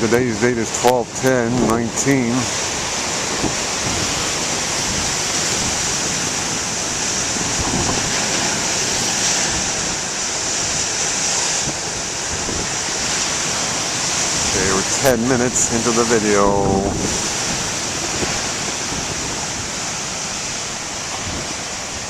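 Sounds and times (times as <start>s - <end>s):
ocean waves breaking ashore: 0.0s - 22.0s.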